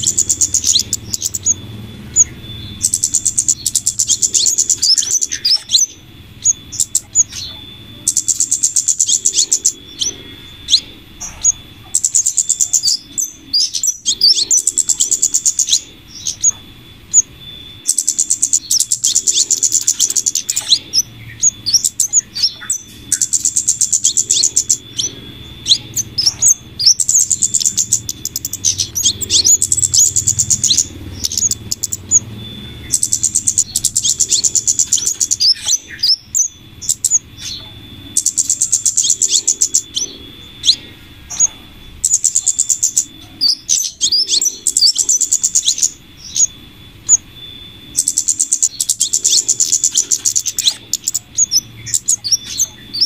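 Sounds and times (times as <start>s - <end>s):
faint steady high tone: 0.0s - 53.0s
sharp bird call notes: 0.0s - 53.0s.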